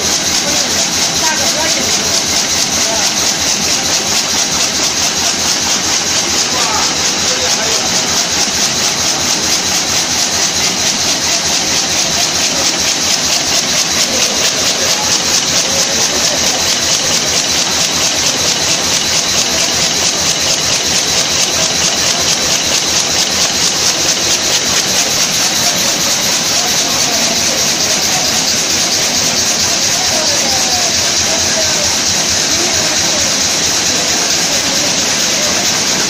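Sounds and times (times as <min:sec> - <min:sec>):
weaving looms clattering: 0:00.0 - 0:36.0.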